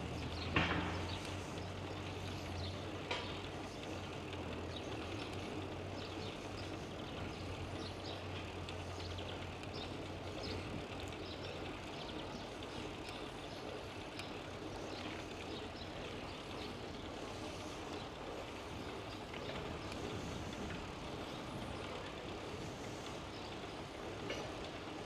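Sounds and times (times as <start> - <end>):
rushing noise of bicycle ride: 0.0 - 25.0.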